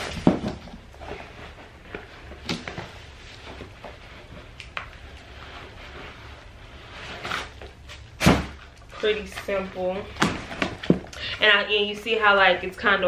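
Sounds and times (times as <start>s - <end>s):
rustling of handled clothing: 0.0s - 13.0s.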